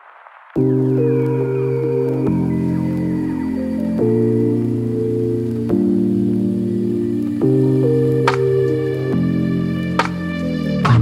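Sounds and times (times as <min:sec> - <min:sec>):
sustained held chords: 0:00.6 - 0:11.0.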